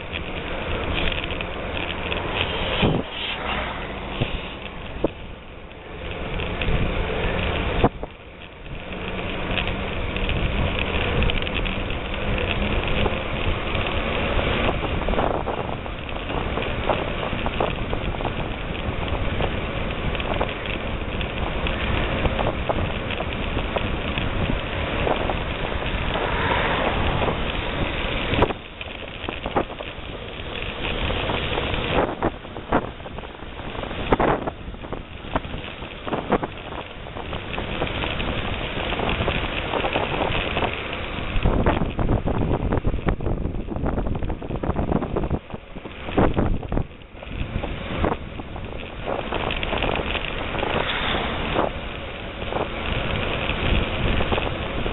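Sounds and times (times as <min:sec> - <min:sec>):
bicycle knocks and rattles: 0:00.0 - 0:54.9
tyres on rough dirt road: 0:00.0 - 0:54.9
wind rushing over microphone: 0:00.0 - 0:54.9.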